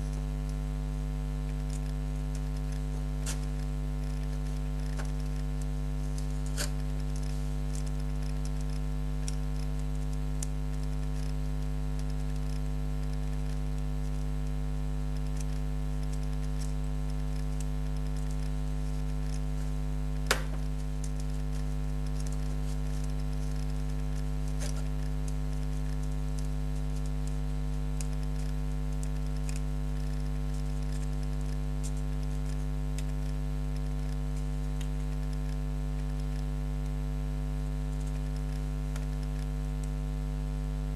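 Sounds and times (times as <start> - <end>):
low mains hum: 0.0 - 40.9.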